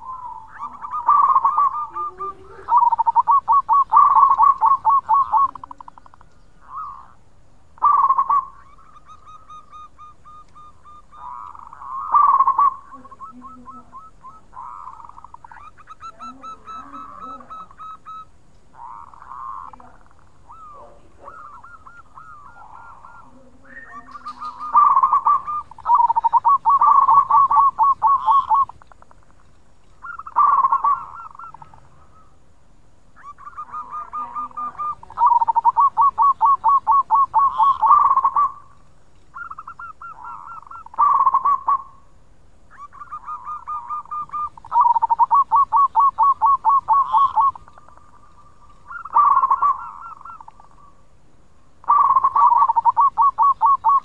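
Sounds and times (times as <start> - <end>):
dove cooing with trilled notes: 0.0 - 7.2, 7.8 - 29.1, 30.0 - 32.3, 33.2 - 42.1, 42.7 - 50.9, 51.8 - 54.0.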